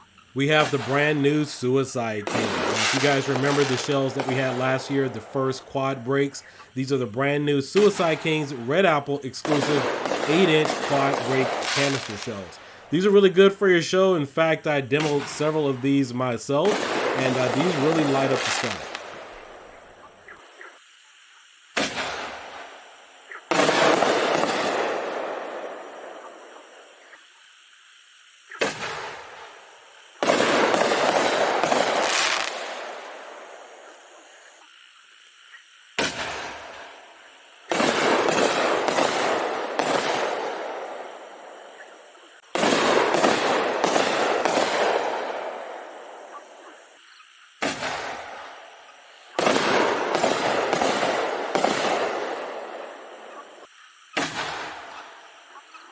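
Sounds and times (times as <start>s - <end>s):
firework sharp report: 0.0s - 20.1s, 21.7s - 26.9s, 28.6s - 34.4s, 36.0s - 47.0s, 47.6s - 55.4s.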